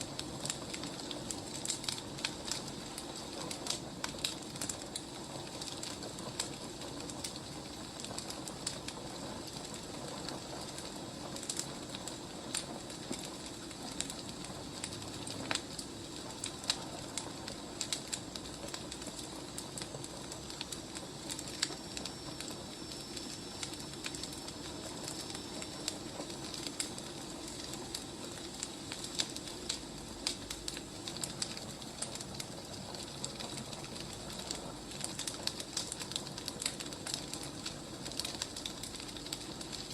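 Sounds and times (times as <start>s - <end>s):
firewood crackling and popping: 0.0s - 39.9s
steady fire hiss: 0.0s - 39.9s.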